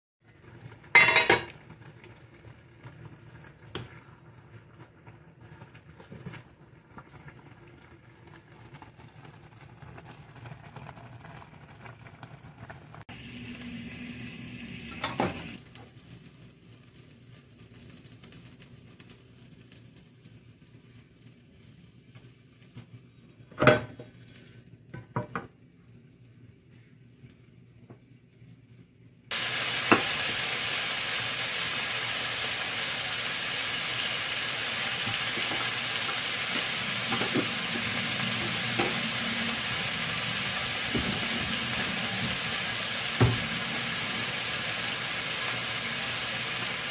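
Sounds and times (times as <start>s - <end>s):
chicken sizzling in frying pan: 0.2s - 25.4s, 29.3s - 46.9s.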